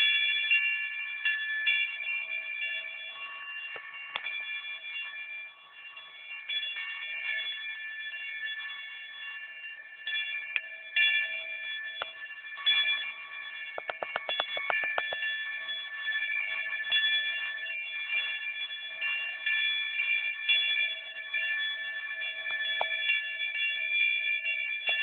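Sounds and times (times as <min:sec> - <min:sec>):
cowbells clanging: 0:00.0 - 0:25.0.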